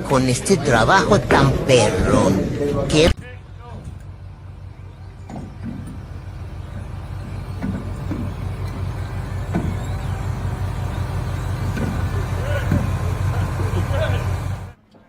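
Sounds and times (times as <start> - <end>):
vehicle engine droning: 0.0 - 14.8.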